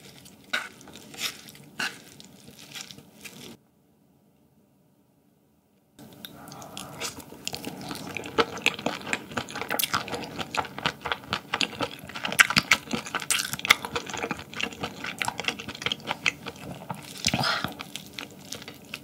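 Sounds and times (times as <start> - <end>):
wet sticky rice mixing: 0.0 - 3.6, 6.5 - 19.0.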